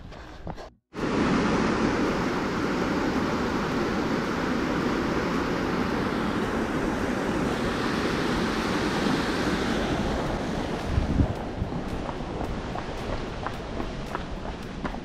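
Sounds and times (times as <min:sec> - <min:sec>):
water rushing over weir: 0:01.0 - 0:15.0.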